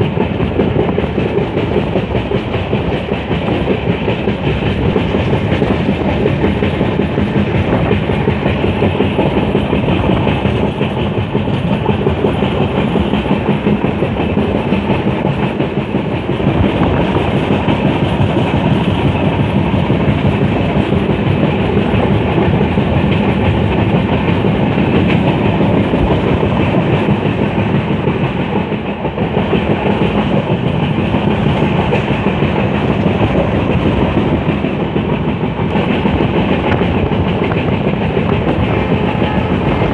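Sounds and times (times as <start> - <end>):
train wheels rolling over rails: 0.0 - 39.9.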